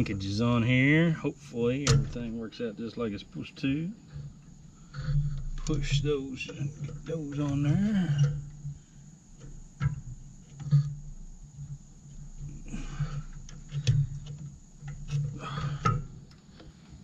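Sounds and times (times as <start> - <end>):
light metallic clicks and knocks: 1.8 - 17.0.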